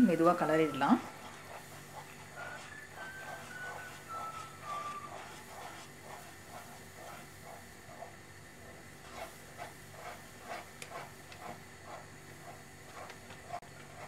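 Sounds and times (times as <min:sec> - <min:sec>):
spatula swishing in a pan: 0:00.0 - 0:14.0.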